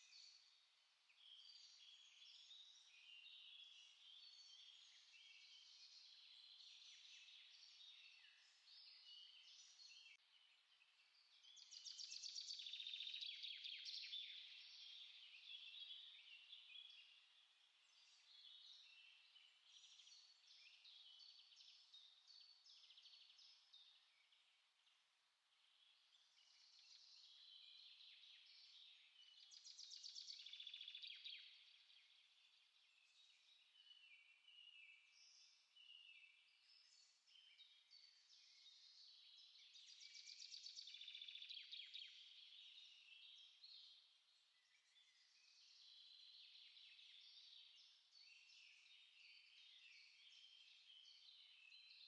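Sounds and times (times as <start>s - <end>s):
small songbirds chirping: 0.0s - 52.0s.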